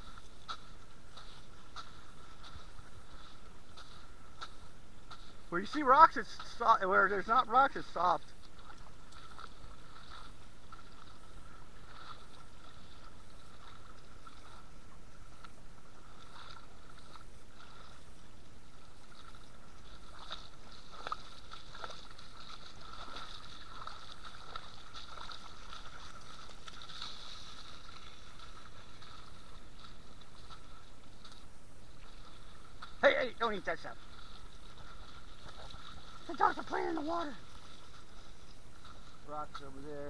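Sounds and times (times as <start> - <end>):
feet wading through water: 0.0 - 40.0.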